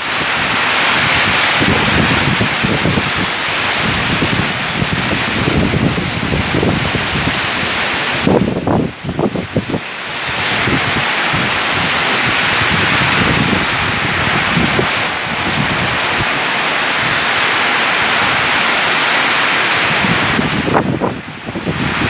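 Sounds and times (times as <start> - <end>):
heavy rain hissing: 0.0 - 22.0
wind rumbling on microphone: 0.0 - 22.0.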